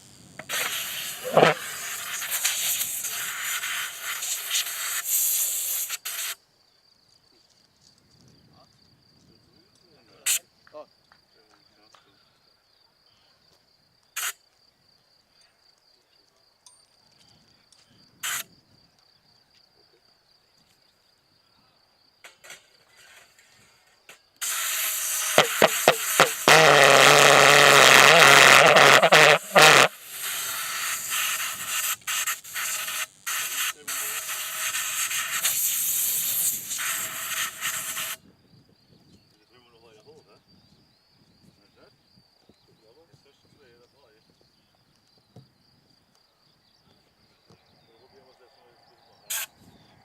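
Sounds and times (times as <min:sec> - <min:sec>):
cricket chirping: 0:00.0 - 0:50.0.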